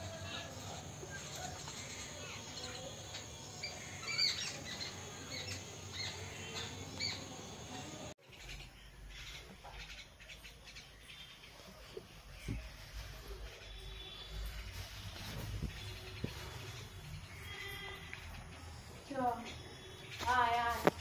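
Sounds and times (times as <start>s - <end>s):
birds chirping and squawking: 0.0s - 21.0s
faint steady background noise: 0.0s - 21.0s.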